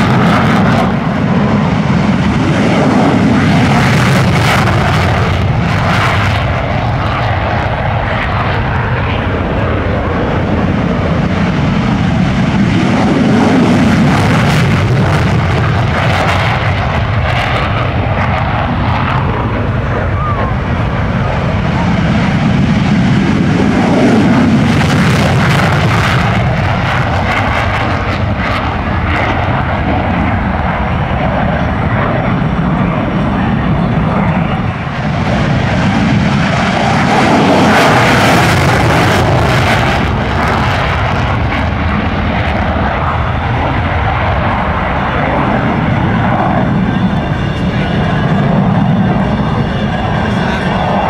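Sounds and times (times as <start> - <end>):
jet taking off in afterburner: 0.0 - 51.0.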